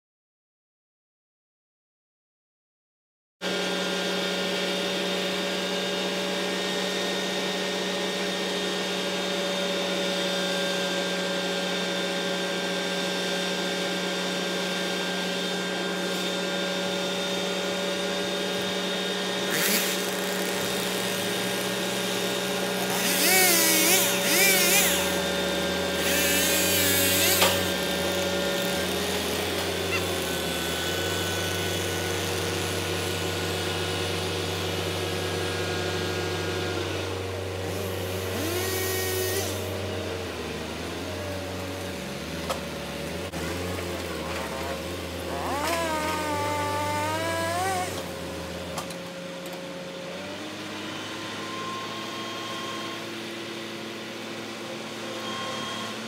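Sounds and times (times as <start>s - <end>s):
crane engine running: 3.5s - 56.0s.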